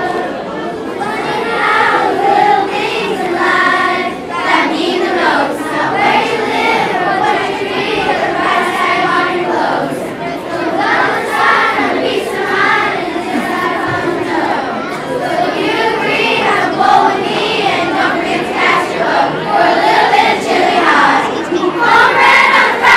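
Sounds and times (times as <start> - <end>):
children's choir singing: 0.0 - 22.9.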